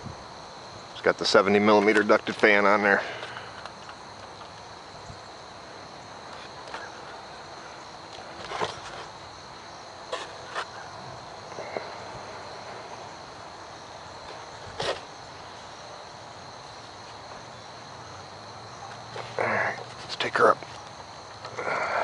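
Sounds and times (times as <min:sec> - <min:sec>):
crickets singing: 0:00.0 - 0:22.0.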